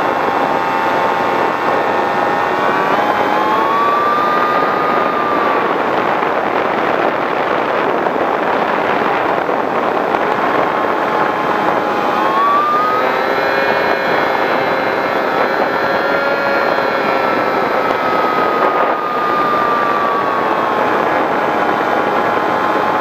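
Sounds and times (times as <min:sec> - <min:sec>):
electric motor and propeller whine: 0:00.0 - 0:23.0
wind rushing over microphone: 0:00.0 - 0:23.0.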